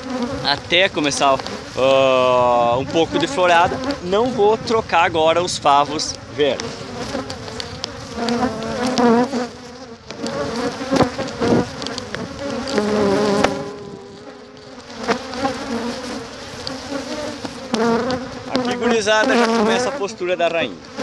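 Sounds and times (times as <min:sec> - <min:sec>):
honey bees buzzing: 0:00.0 - 0:21.0.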